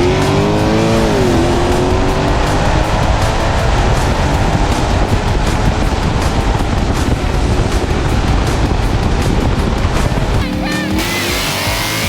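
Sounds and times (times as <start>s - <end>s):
wind rumble on microphone: 0.0s - 10.4s
car engine and tyre noise: 0.0s - 12.0s
music with steady beat: 0.0s - 12.0s.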